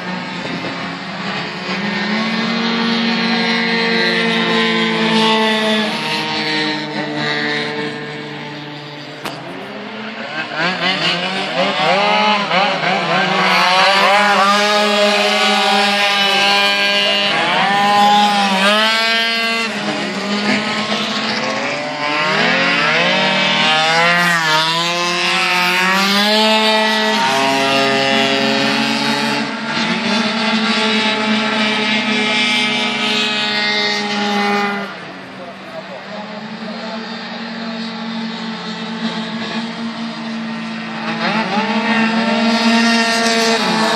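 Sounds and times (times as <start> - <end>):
racing scooter engines revving: 0.0 - 43.9.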